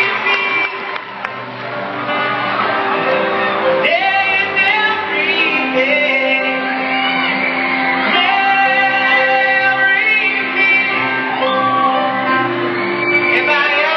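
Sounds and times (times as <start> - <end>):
live band with singing: 0.0 - 13.9.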